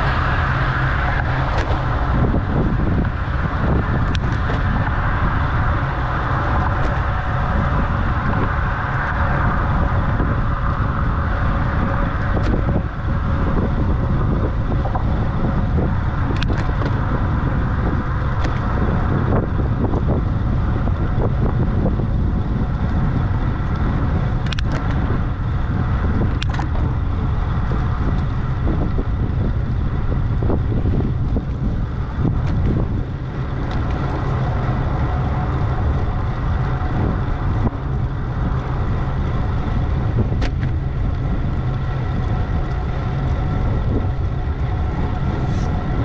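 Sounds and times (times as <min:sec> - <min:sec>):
wind and road noise: 0:00.0 - 0:46.0
bike clicks: 0:02.9 - 0:21.4, 0:22.7 - 0:46.0.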